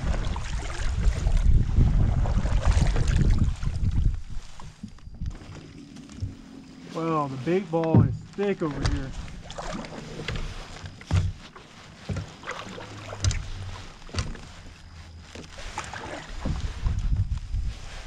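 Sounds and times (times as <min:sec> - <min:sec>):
paddle splashing in water: 0:00.0 - 0:17.0.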